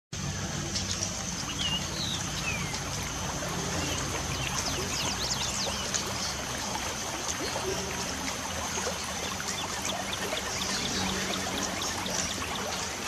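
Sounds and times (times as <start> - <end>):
light rain hiss and patter: 0.2 - 13.0
birds chirping: 0.5 - 13.0.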